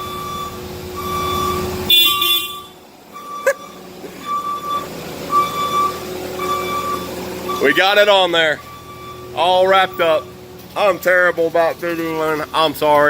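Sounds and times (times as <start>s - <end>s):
backup alarm beeping: 0.0s - 12.6s
diesel engine running: 0.0s - 13.0s.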